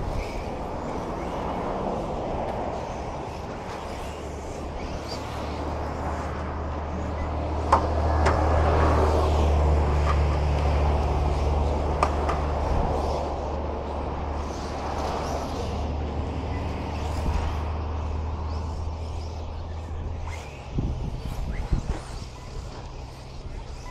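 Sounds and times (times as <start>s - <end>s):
radio-controlled trucks running: 0.0s - 23.9s.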